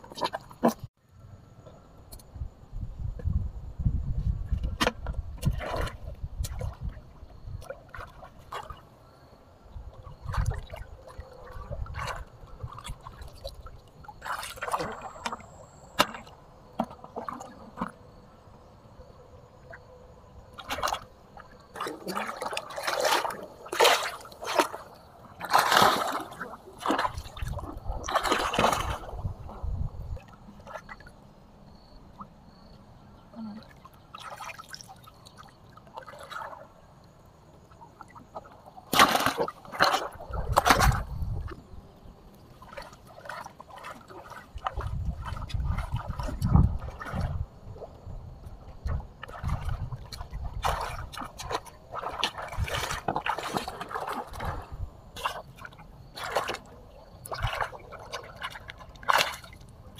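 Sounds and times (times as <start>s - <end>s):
water splashing and sloshing: 0.0s - 1.0s, 4.2s - 59.9s.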